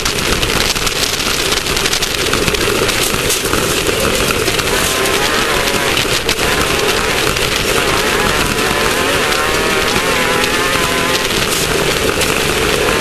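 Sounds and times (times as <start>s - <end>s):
road and chassis noise: 1.6s - 13.0s
race buggy engine running hard: 2.5s - 13.0s.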